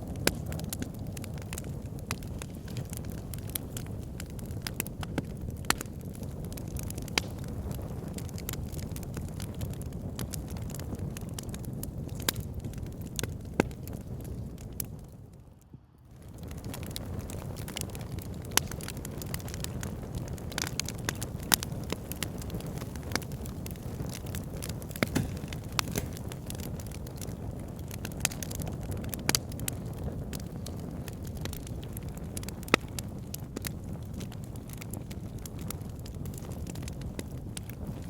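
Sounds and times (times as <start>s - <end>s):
loud fire snaps: 0.0s - 15.4s, 16.0s - 38.0s
fire crackles and pops: 0.0s - 38.0s
low rush of flame: 0.0s - 38.0s.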